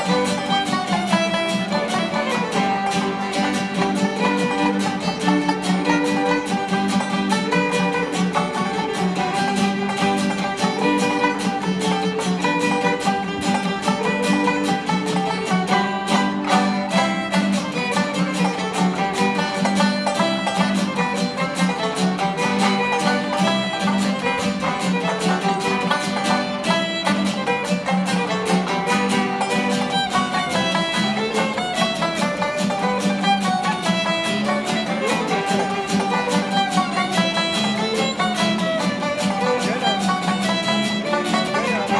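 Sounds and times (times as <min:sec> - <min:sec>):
banjo and guitar picked rhythm: 0:00.0 - 0:41.9
fiddle melody: 0:00.0 - 0:41.9.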